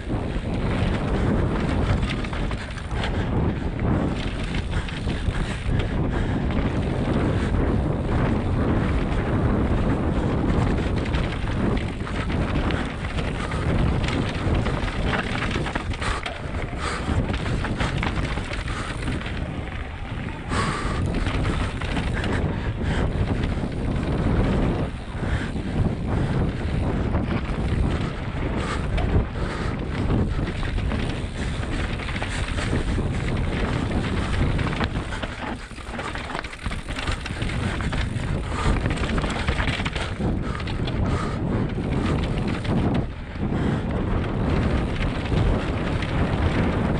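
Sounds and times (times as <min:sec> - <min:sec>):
bike clicks and rattles: 0:00.0 - 0:46.9
tyres rumbling on dirt: 0:00.0 - 0:46.9
wind buffeting microphone: 0:00.0 - 0:46.9.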